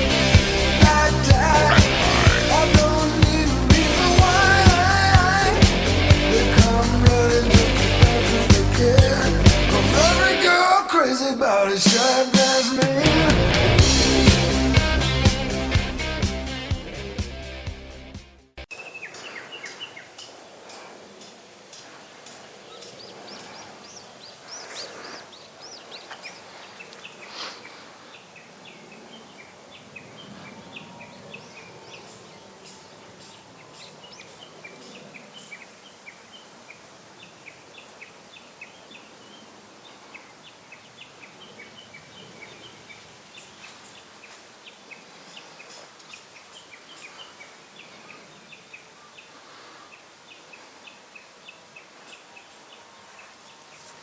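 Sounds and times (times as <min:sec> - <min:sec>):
birds chirping: 0:00.0 - 0:17.7, 0:18.6 - 0:54.0.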